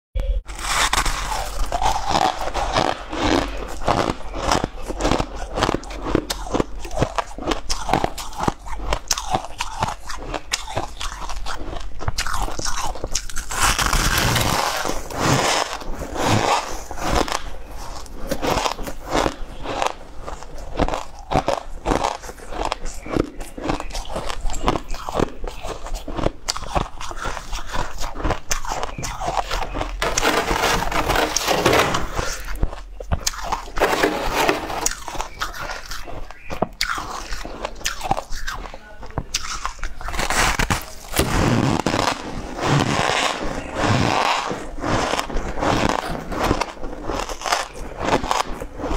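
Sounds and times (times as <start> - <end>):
grinding chewing: 0.5 - 48.9
person crunching ice: 0.5 - 48.9.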